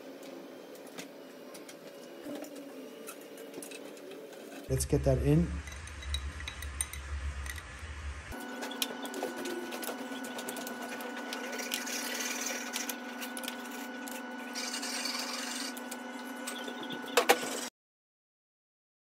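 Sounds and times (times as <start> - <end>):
steady mechanical hum: 0.0 - 17.7.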